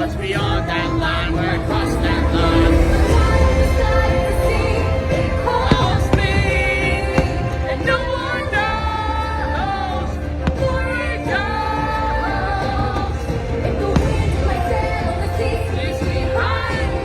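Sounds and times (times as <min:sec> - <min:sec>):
singing over orchestral music: 0:00.0 - 0:17.0.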